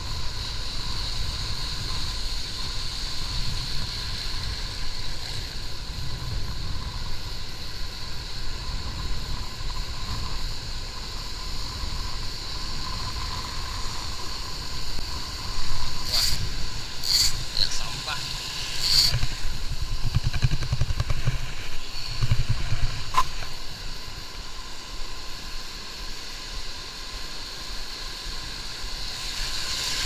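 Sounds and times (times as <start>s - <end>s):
wind buffeting microphone: 0.0s - 24.1s.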